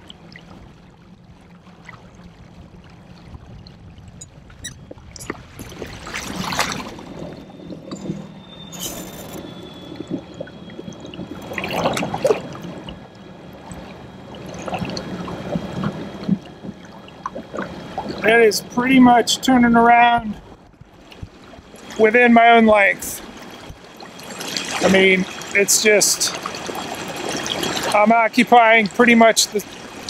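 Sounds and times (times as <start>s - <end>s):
faint low hum: 0.0s - 30.0s
water splashing against kayak hull: 0.0s - 30.0s.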